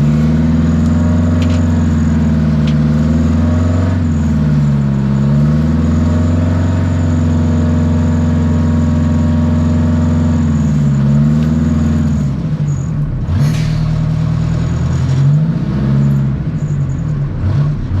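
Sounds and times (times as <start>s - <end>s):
diesel engine running hard: 0.0s - 18.0s.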